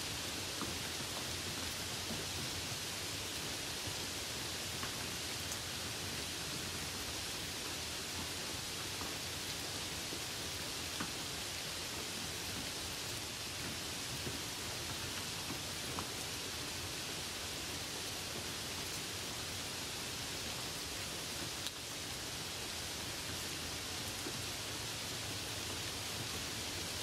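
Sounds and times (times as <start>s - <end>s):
light rain hiss: 0.0s - 27.0s.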